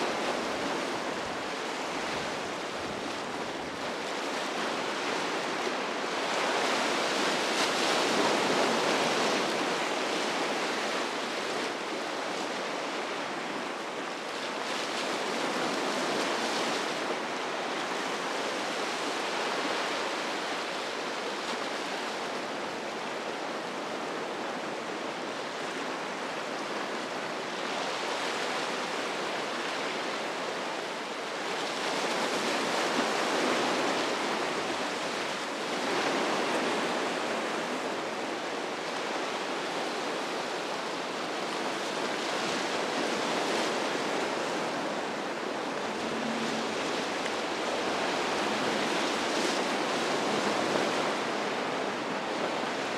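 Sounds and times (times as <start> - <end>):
waves breaking and surf rushing: 0.0 - 52.9.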